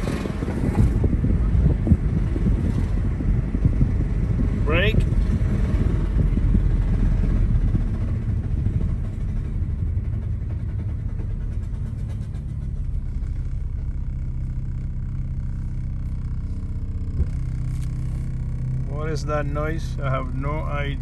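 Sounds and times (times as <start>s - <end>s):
car road rumble: 0.0s - 21.0s
steady low hum: 0.0s - 21.0s.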